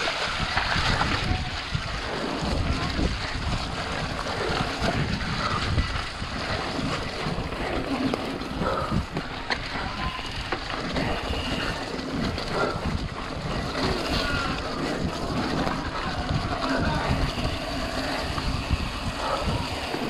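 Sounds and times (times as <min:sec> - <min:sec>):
bike tyres on muddy trail: 0:00.0 - 0:20.0
wind rushing over microphone: 0:00.0 - 0:20.0.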